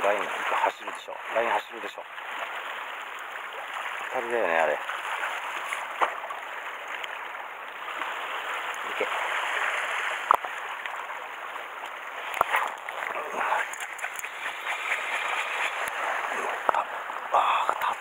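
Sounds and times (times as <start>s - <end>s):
water lapping over rocks: 0.0s - 18.0s.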